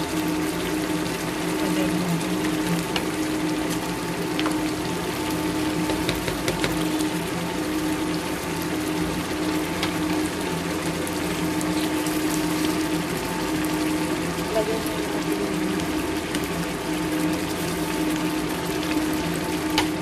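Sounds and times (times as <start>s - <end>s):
sauce bubbling in a pan: 0.0s - 20.0s
steady hum: 0.0s - 20.0s.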